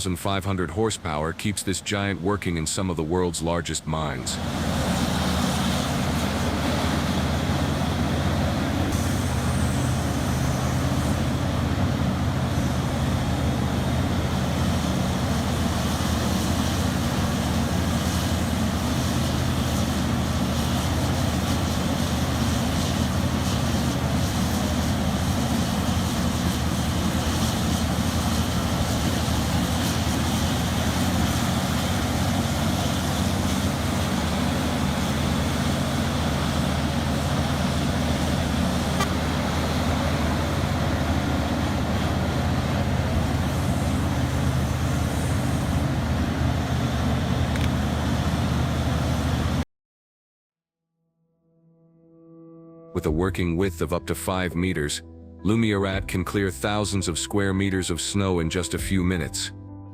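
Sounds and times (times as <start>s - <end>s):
large diesel engine running: 0.0s - 49.6s.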